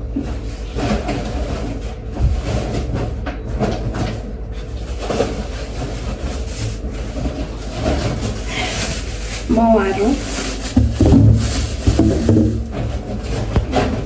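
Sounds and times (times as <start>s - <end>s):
grocery bags rustling: 0.2s - 14.0s
steady low hum: 2.2s - 14.0s.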